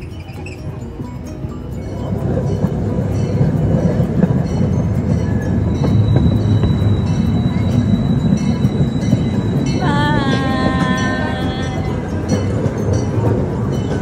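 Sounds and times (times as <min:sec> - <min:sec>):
small train rumbling on track: 0:00.0 - 0:14.0.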